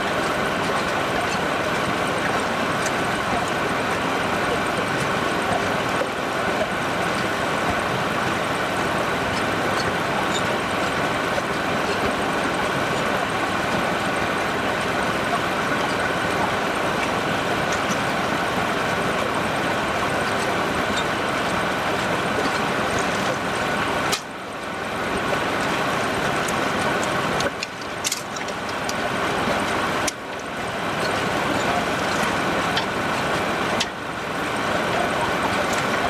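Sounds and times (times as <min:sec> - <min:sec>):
sawmill machinery whirring: 0:00.0 - 0:36.0.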